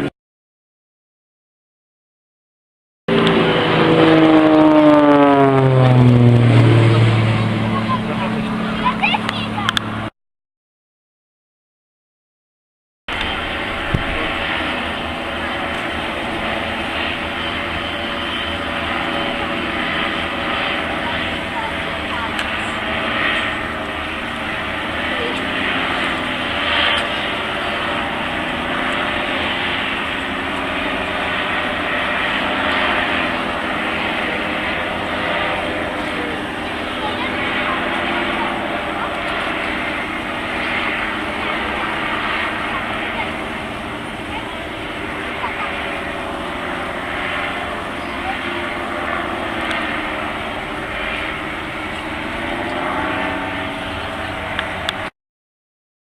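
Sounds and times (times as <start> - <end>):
aircraft engine drone: 3.1 - 10.1, 13.1 - 55.1.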